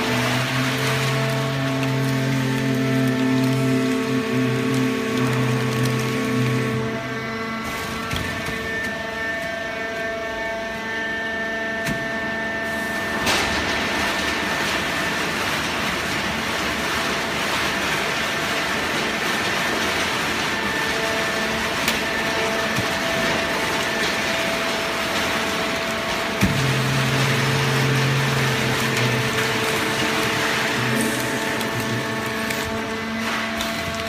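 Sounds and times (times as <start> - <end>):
hydraulic baler humming: 0.0 - 34.0.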